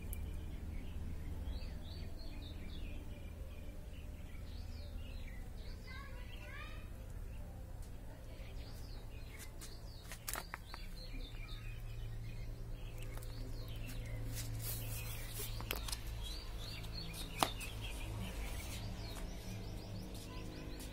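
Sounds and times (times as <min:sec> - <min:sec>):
low steady hum: 0:00.0 - 0:20.4
sparrows chirping: 0:00.0 - 0:20.9.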